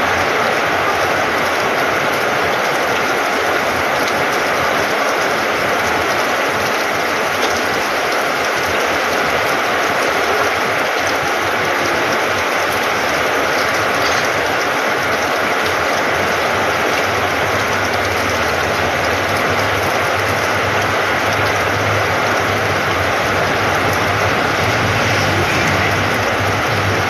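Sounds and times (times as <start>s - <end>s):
heavy rain on a corrugated roof: 0.0s - 27.0s.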